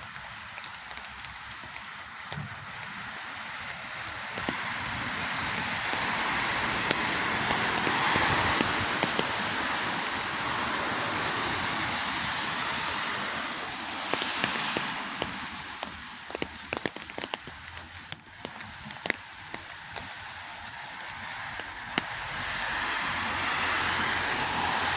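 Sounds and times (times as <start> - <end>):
rain hiss: 0.0 - 24.9.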